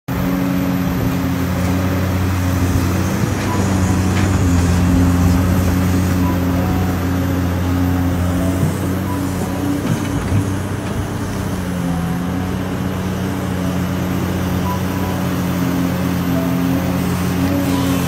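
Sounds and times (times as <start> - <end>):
bulldozer diesel engine drone: 0.1 - 18.0.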